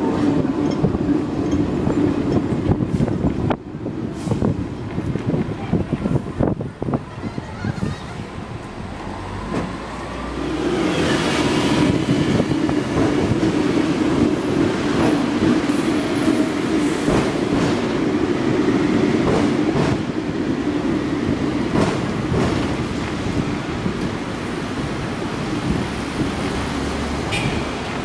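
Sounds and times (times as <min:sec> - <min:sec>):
tram knocks and rattles: 0:00.0 - 0:28.0
tram wheels rumbling: 0:00.0 - 0:28.0.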